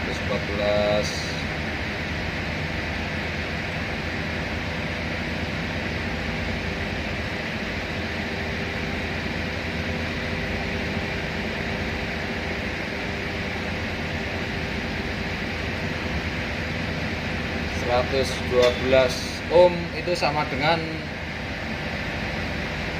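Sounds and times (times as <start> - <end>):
faint constant hum: 0.0 - 22.9
ventilation hiss: 0.0 - 22.9.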